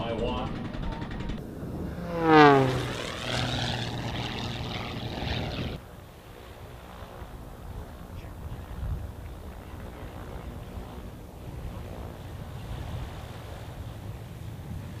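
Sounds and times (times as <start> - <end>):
propeller airplane engine passing: 0.0 - 15.0.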